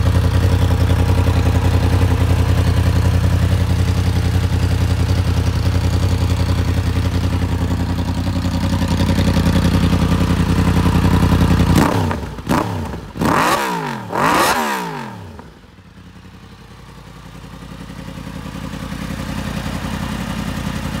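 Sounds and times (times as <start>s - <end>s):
motorcycle engine idling: 0.0s - 21.0s
motorcycle engine revving: 0.0s - 21.0s.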